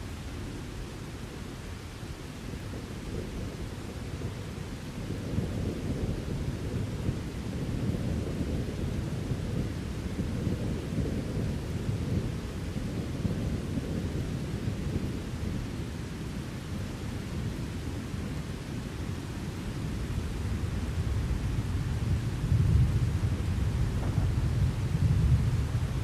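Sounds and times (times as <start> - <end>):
low rumble of thunder: 0.0 - 26.0
rain hissing: 0.0 - 26.0.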